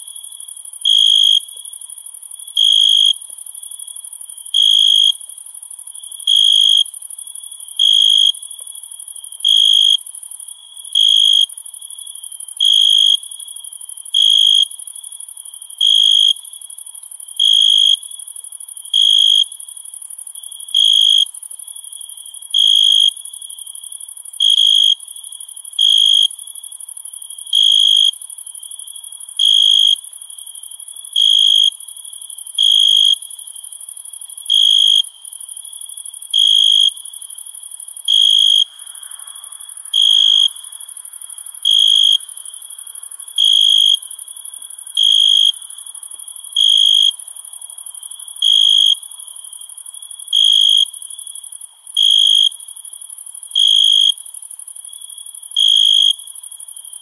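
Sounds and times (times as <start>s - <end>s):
crickets trilling: 0.0s - 57.0s
louder low cricket chirp: 0.0s - 57.0s.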